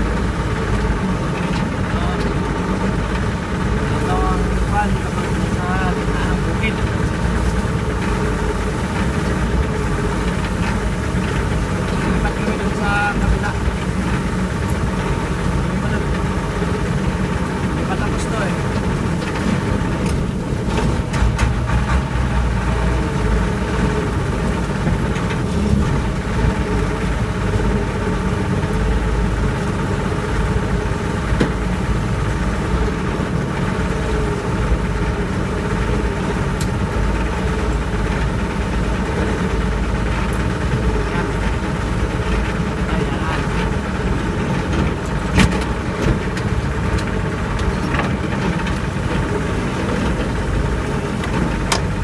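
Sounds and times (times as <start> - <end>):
truck engine running: 0.0 - 52.0
vehicle knocking: 0.0 - 52.0.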